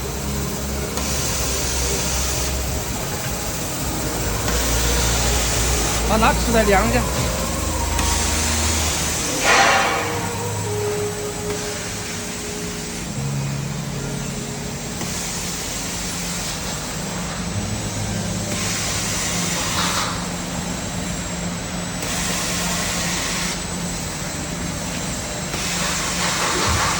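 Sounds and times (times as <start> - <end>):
machine motor hum: 0.0 - 26.9.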